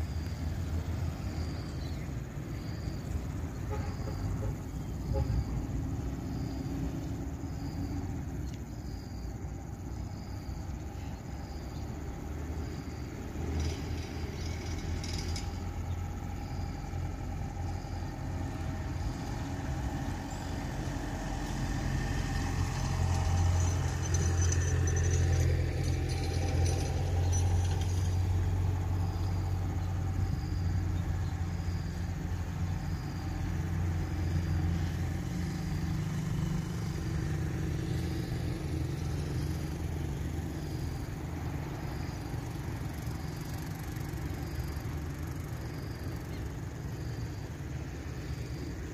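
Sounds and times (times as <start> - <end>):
low engine hum: 0.0 - 48.9.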